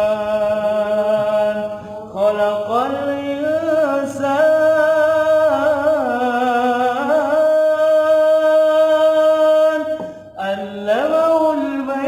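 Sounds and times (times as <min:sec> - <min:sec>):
person reciting melodically: 0:00.0 - 0:12.0.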